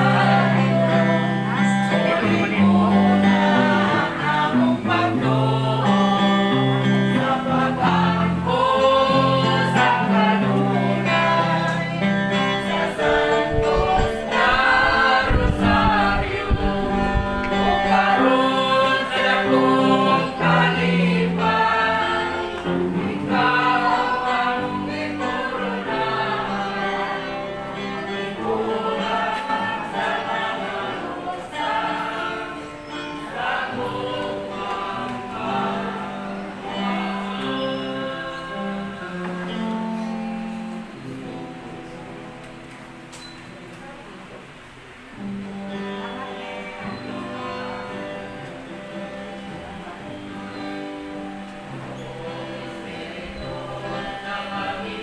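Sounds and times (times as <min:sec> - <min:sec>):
group singing gospel song: 0:00.0 - 0:42.4, 0:45.1 - 0:55.0
guitar accompaniment: 0:00.0 - 0:55.0.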